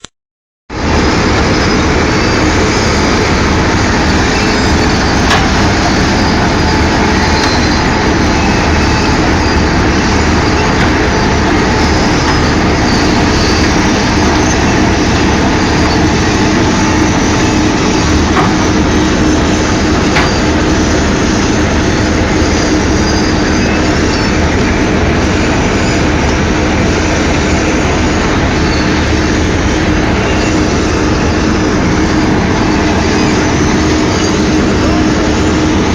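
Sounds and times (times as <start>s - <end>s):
constant low hum: 0.8s - 35.9s
milling machine grinding asphalt: 0.8s - 35.9s.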